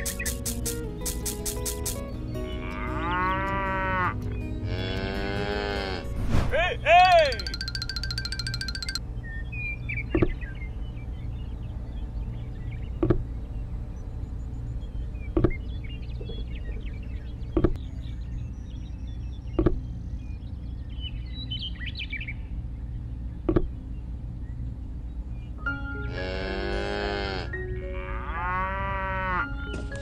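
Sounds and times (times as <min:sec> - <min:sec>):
small birds chirping: 0:00.0 - 0:06.0, 0:07.2 - 0:26.1.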